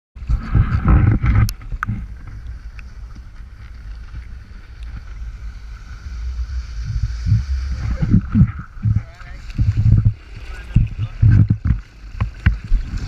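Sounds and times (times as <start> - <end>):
water lapping: 0.2 - 13.0
wind rumbling on microphone: 0.2 - 13.0.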